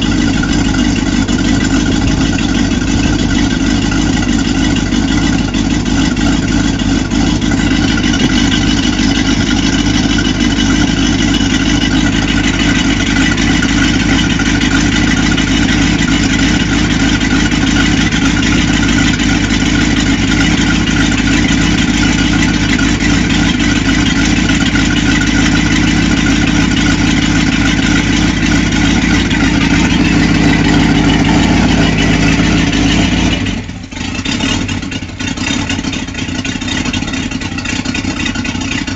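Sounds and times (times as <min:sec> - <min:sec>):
boat engine idling: 0:00.0 - 0:38.9.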